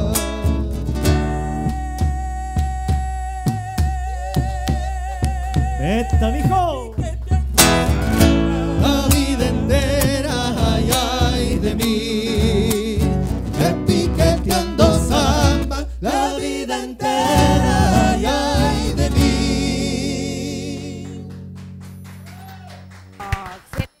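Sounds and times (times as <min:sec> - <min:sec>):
vocal group singing in harmony: 0:00.0 - 0:06.3, 0:08.0 - 0:21.5
strummed acoustic guitars: 0:00.0 - 0:23.1.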